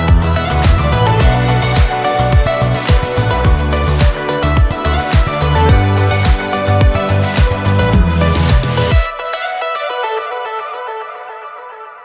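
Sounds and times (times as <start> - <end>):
plucked guitar-like music: 0.0 - 11.8.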